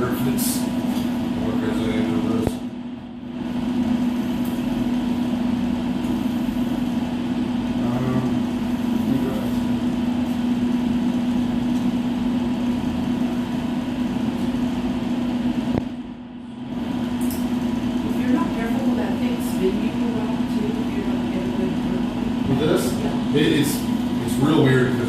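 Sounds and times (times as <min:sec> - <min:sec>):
floor grinder motor hum: 0:03.3 - 0:15.8, 0:16.5 - 0:25.0.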